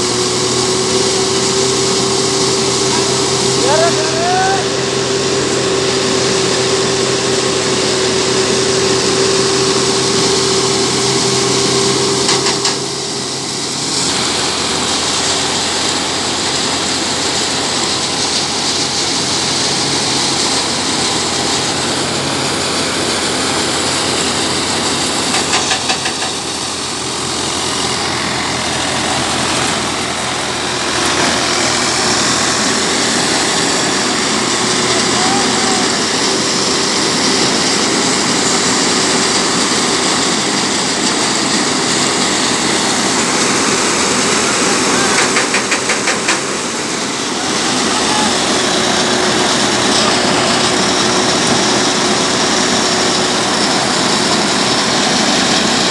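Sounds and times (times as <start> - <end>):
thresher running: 0.0 - 55.9
tractor engine: 0.0 - 55.9.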